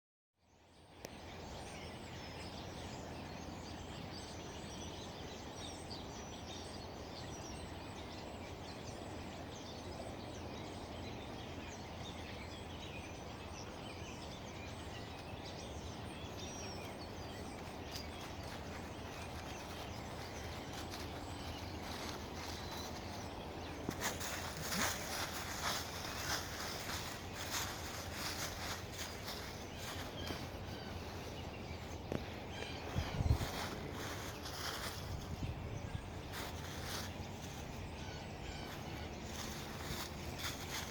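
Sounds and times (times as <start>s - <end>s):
birds singing and calling: 0.4s - 40.9s.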